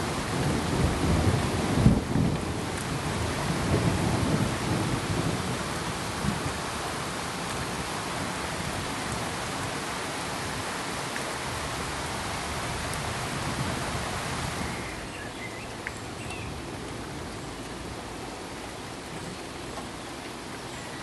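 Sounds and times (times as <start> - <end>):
pink noise hiss: 0.0 - 21.0.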